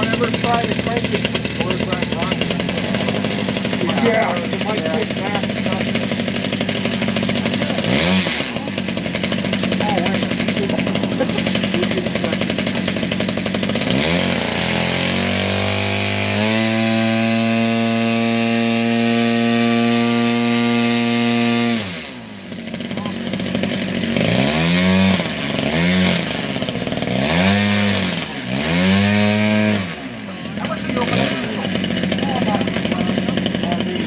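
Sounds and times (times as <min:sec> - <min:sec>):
model airplane engine revving: 0:00.0 - 0:34.0.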